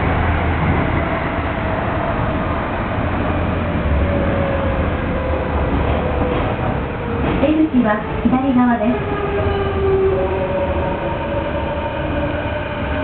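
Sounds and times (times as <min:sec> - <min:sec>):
train wheels on rail rumbling: 0:00.0 - 0:13.0.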